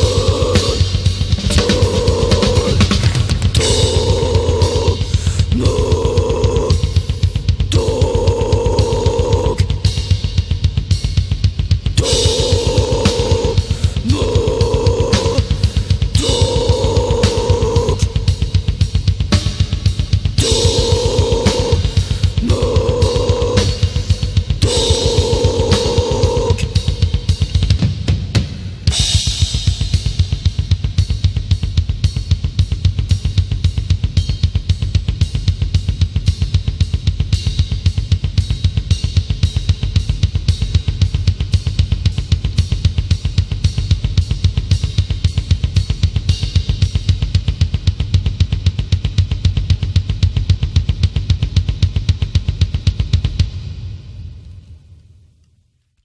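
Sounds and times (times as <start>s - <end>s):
metal drum kit fast beat: 0.0s - 54.4s.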